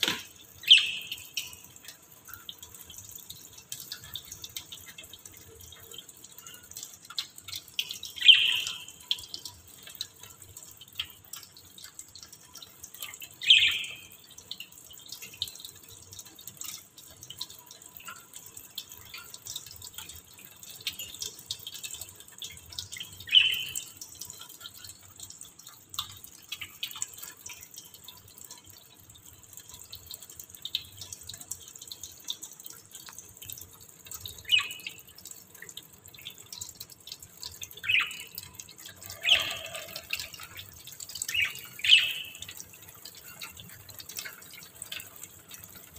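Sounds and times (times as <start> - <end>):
steady water hiss: 0.0 - 45.9
water dripping into metal sink: 0.0 - 45.9.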